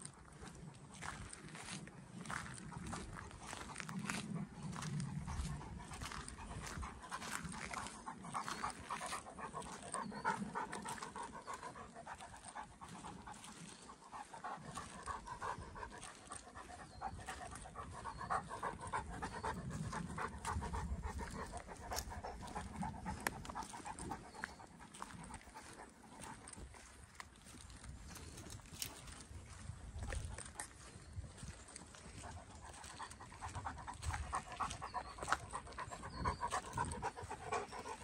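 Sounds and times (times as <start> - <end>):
dog panting rapidly: 0.2 - 38.0.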